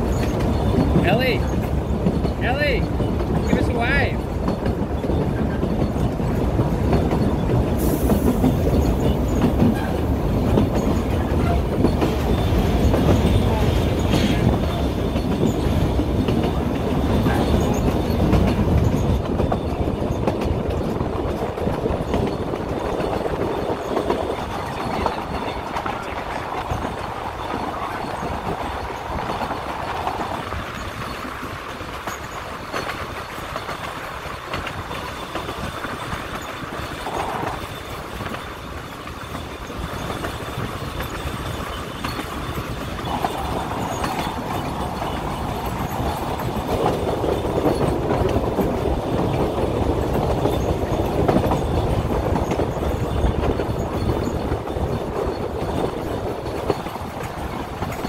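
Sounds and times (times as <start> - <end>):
carriage rumble: 0.0 - 58.0
train wheels on track: 0.0 - 58.0.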